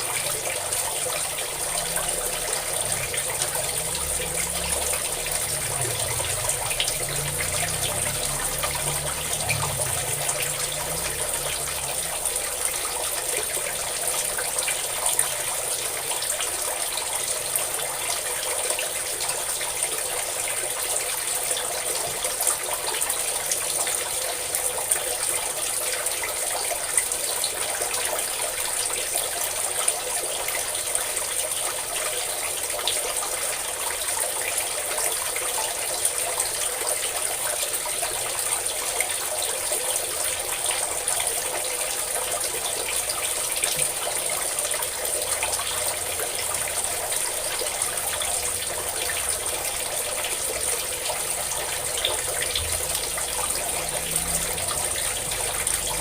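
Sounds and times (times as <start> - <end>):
water pouring and splashing: 0.0 - 56.0.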